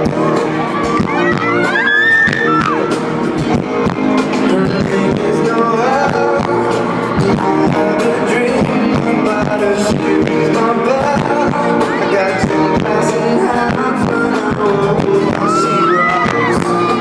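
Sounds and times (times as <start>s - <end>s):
person singing lead vocals: 0.0s - 17.0s
pop-rock band playing: 0.0s - 17.0s.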